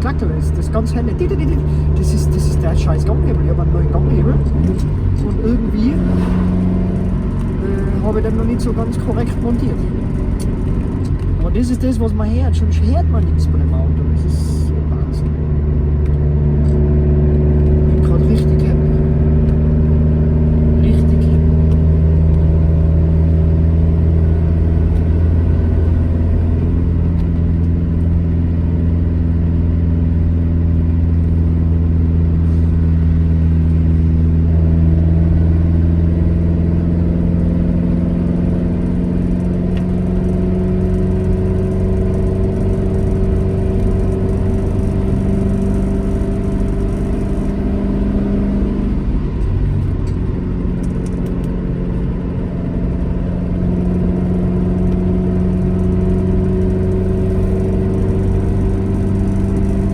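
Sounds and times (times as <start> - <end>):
car engine while driving: 0.0 - 59.9.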